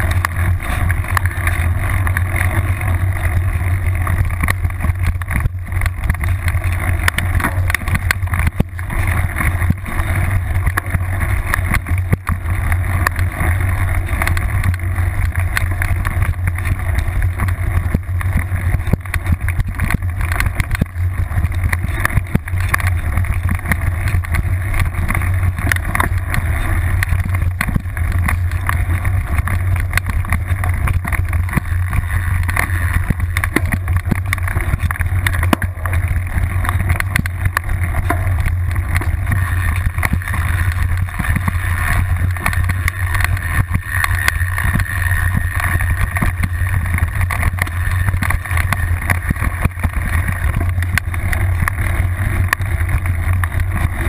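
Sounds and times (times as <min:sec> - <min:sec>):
bike rattling clicks and knocks: 0:00.0 - 0:54.0
low rumble of wind and vibration: 0:00.0 - 0:54.0.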